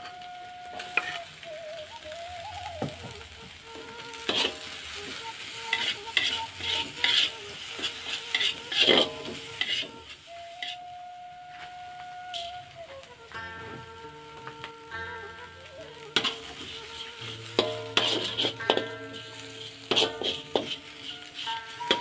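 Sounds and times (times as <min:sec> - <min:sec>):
metal spatula scraping wok: 0:00.0 - 0:02.2, 0:03.0 - 0:22.0
food sizzling: 0:00.0 - 0:22.0.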